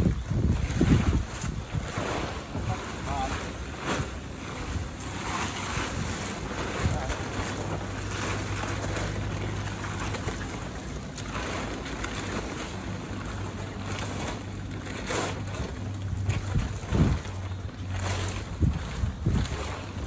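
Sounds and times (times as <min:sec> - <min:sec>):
wind buffeting microphone: 0:00.0 - 0:14.8, 0:15.4 - 0:20.0
plastic tarp rustling: 0:00.0 - 0:20.0
steady low hum: 0:00.0 - 0:20.0.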